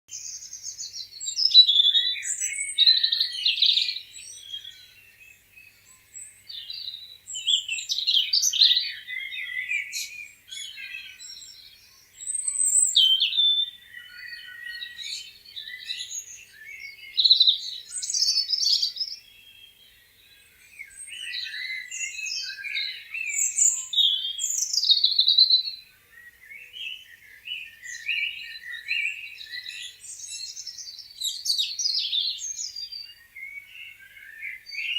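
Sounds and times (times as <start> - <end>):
songbirds chirping and singing: 0.1 - 34.9.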